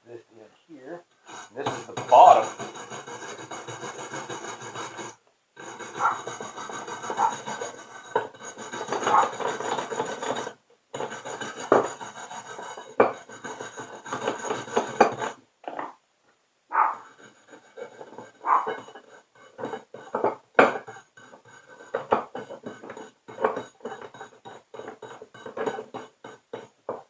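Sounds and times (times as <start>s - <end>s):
scrubbing pipe threads: 1.3s - 15.4s, 17.0s - 27.0s.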